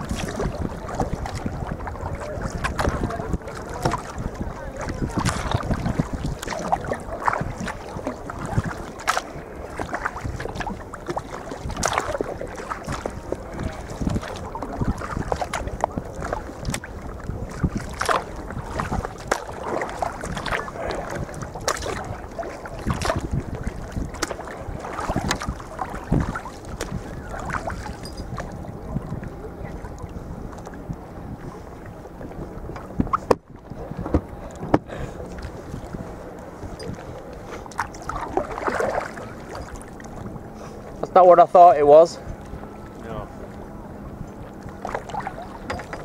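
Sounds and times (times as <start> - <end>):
paddle splashes and knocks: 0.0 - 46.0
wind rumble on microphone: 0.0 - 46.0.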